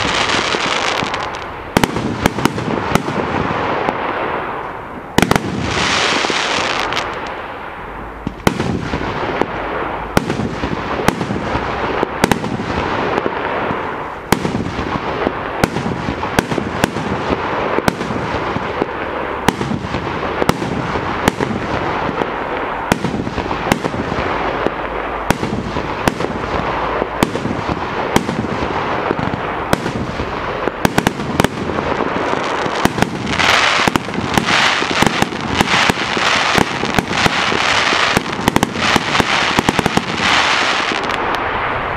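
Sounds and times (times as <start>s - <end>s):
fireworks hiss: 0.0s - 41.9s.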